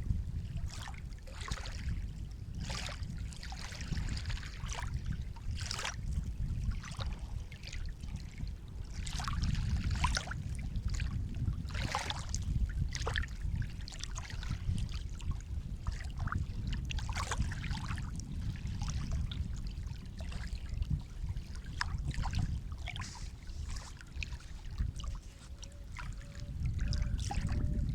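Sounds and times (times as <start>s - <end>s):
low rumble of the sea: 0.0s - 27.9s
sea water lapping and splashing: 0.0s - 27.9s.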